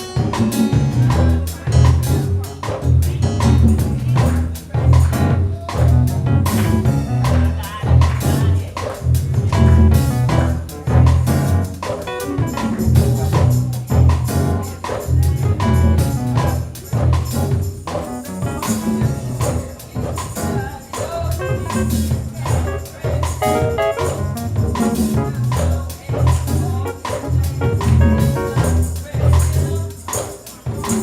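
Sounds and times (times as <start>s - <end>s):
heavy bass line: 0.0s - 29.8s
steady percussion: 0.0s - 31.0s
worship band playing: 0.0s - 31.0s.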